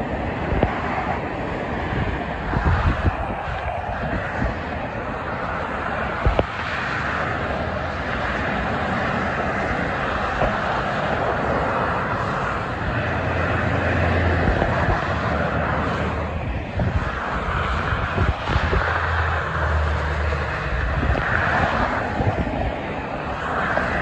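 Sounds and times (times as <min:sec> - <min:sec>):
highway traffic roar: 0:00.0 - 0:24.0
vehicles rumbling past: 0:00.0 - 0:24.0.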